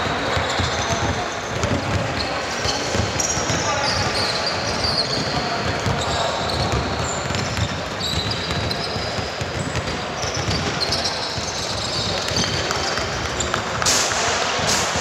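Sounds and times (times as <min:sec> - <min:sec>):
shoes squeaking: 0:00.0 - 0:14.0
basketball bouncing: 0:00.0 - 0:15.0
game crowd din: 0:00.0 - 0:15.0.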